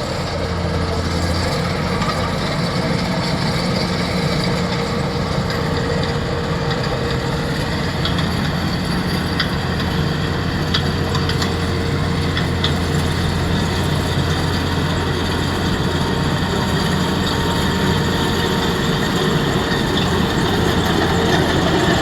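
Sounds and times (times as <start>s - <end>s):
machine droning: 0.0s - 22.0s.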